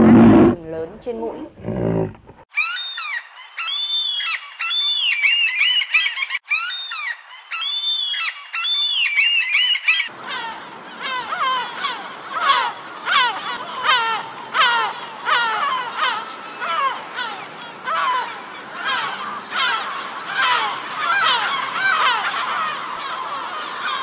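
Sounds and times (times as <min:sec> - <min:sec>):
gulls calling: 0:00.0 - 0:24.0.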